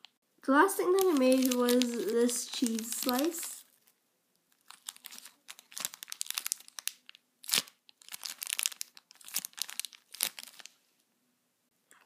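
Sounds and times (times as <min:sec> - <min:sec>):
plastic bag crinkling: 0:00.6 - 0:10.8.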